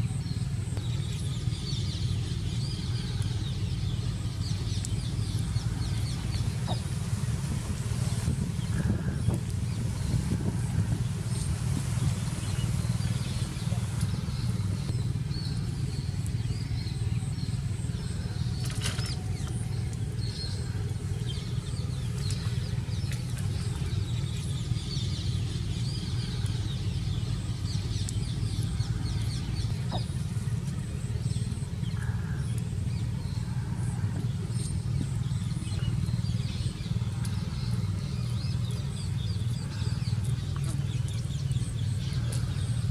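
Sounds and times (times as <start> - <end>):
low rumble: 0.0 - 42.9.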